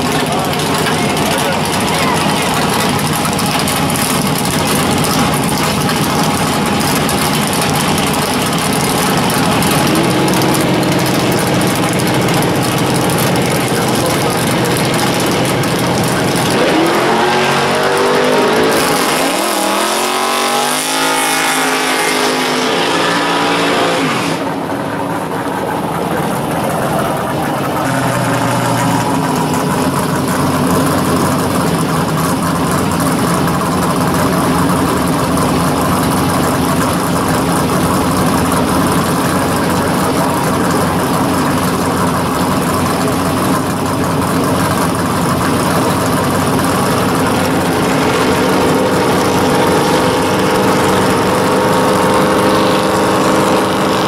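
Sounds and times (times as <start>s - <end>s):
drag car engine idling: 0.0s - 22.6s, 24.0s - 54.0s
drag car engine revving: 0.0s - 54.0s.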